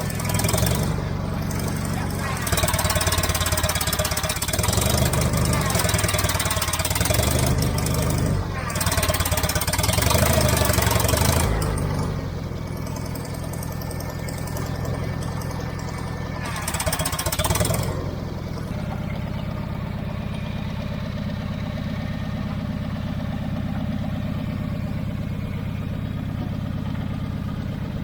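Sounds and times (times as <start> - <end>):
backhoe engine running: 0.0 - 28.0.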